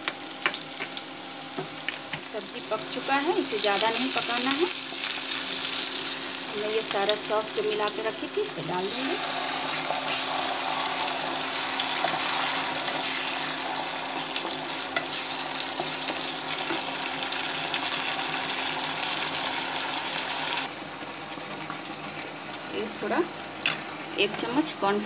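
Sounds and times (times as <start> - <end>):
sauce sizzling in a wok: 0.0 - 25.0.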